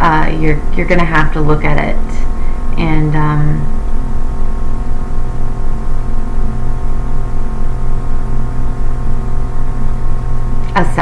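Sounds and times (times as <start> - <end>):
ambient drone of held tones: 0.0 - 11.0.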